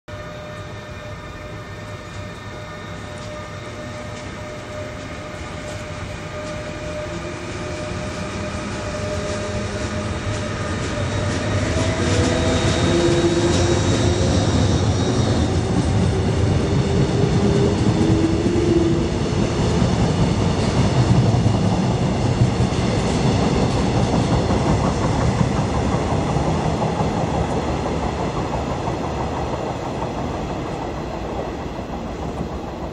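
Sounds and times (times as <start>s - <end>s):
train wheels rumbling on rails: 0.1s - 32.9s.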